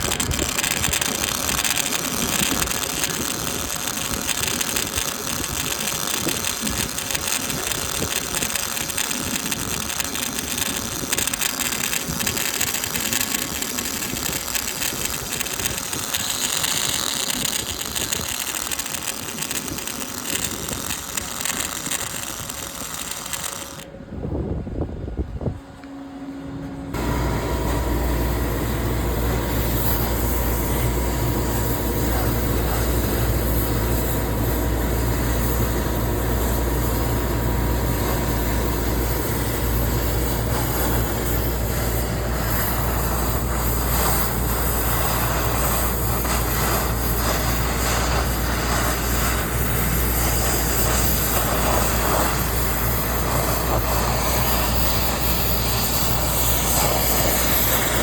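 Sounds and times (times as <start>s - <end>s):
machinery rumble and hum: 0.0s - 58.0s.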